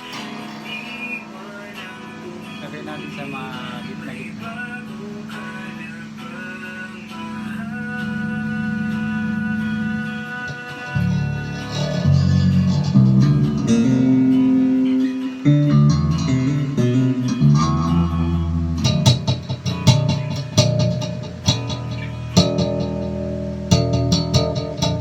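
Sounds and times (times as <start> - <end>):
electric bass guitar: 0.0 - 25.0.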